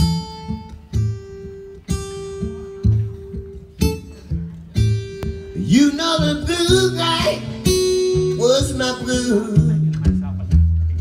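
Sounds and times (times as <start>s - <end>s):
acoustic blues guitar: 0.0s - 11.0s.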